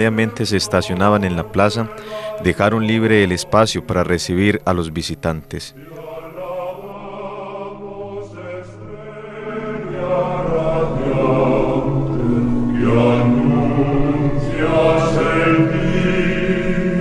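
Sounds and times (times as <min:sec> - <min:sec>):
choir singing slow chant: 0:00.0 - 0:17.0.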